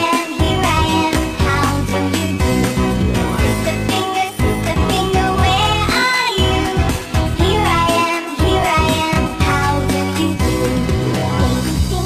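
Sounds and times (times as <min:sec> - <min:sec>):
children's music with steady beat: 0:00.0 - 0:12.0.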